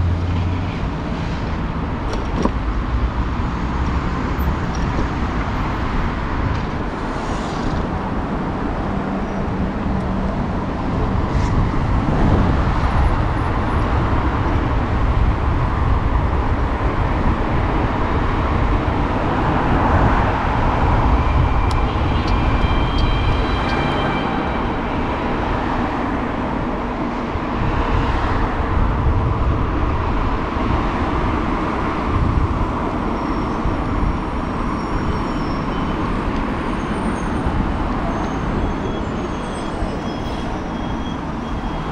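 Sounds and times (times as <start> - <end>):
car engines and tyre noise: 0.0 - 41.9.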